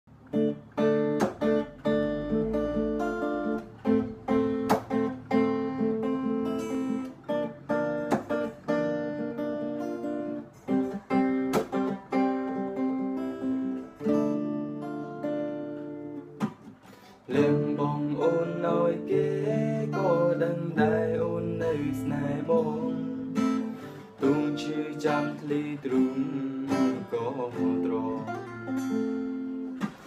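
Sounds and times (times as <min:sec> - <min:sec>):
fingerpicked acoustic guitar: 0:00.1 - 0:30.0
strummed guitar chords: 0:00.1 - 0:30.0.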